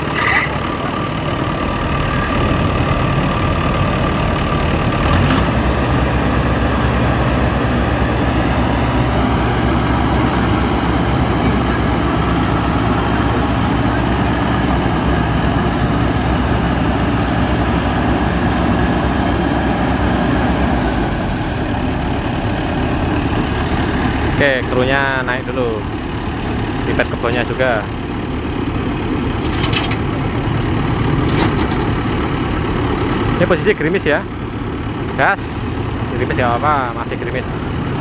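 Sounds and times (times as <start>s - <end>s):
combine harvester engine running: 0.0s - 38.0s.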